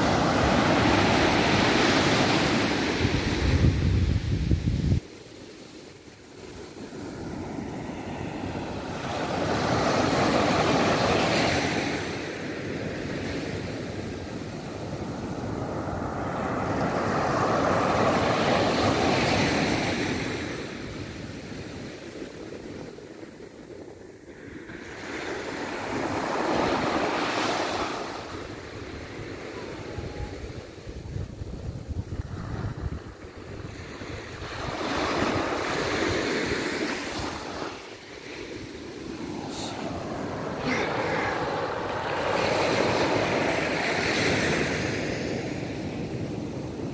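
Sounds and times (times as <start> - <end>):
surf washing up a beach: 0.0 - 46.9.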